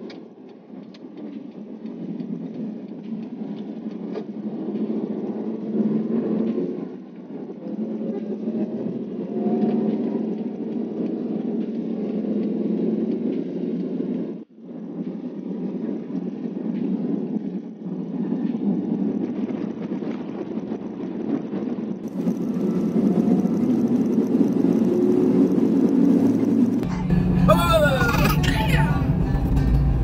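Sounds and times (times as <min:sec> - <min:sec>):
van engine and road rumble: 0:00.0 - 0:30.0.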